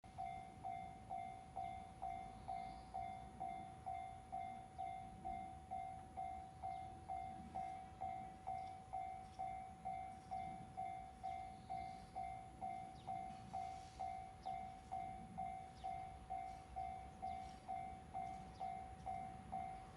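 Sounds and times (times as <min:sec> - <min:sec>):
level crossing alarm ringing: 0:00.1 - 0:19.9.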